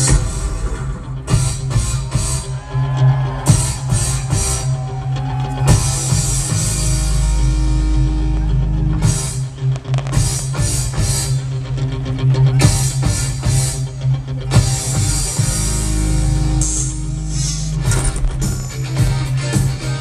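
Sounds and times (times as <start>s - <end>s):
loud rock music: 0.0s - 20.0s.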